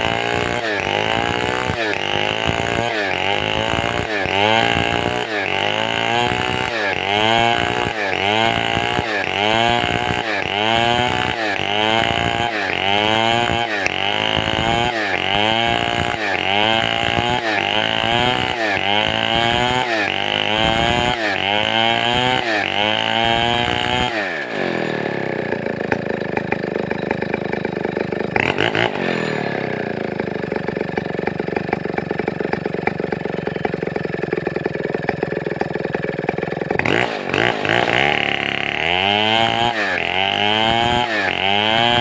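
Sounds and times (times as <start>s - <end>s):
chainsaw revving and idling: 0.0s - 42.0s.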